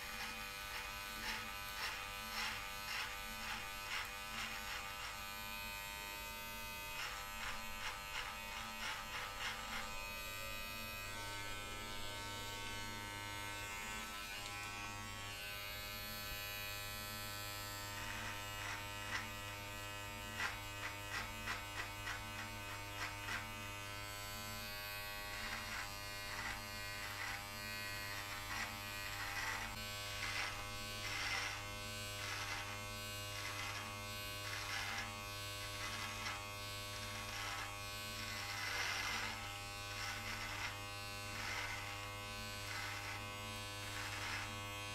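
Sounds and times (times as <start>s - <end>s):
electric trimmer buzzing: 0.0s - 44.9s
trimmer clipping hair: 0.0s - 44.9s.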